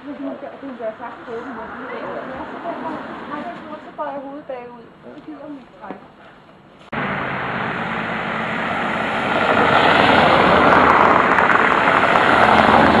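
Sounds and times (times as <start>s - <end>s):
car engines: 0.0s - 13.0s.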